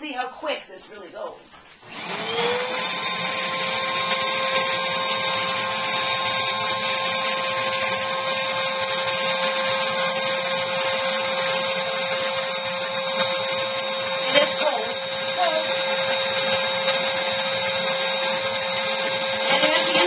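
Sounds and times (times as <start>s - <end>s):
spray machine motor whine: 1.8s - 20.0s.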